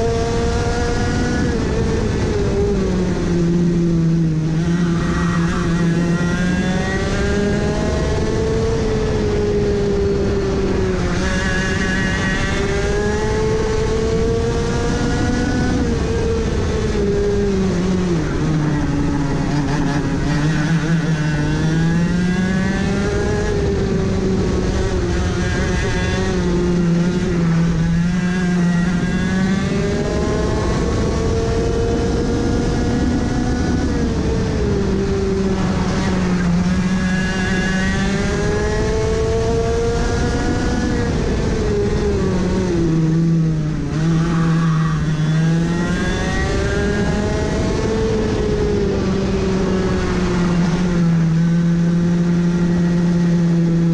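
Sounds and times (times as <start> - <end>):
go-kart engine racing: 0.0 - 53.9.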